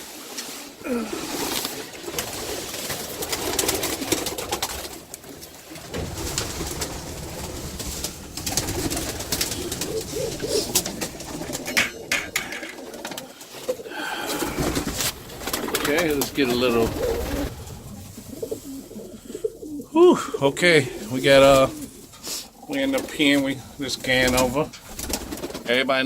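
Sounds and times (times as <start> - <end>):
wings rustling: 0.0 - 26.0
pigeons cooing: 0.2 - 25.9.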